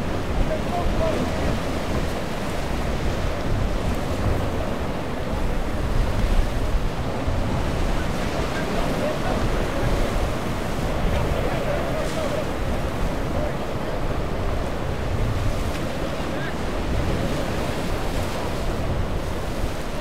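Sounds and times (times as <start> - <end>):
choppy water and surf: 0.0 - 20.0
faint boat motors: 0.0 - 20.0
wind buffeting microphone: 0.0 - 20.0.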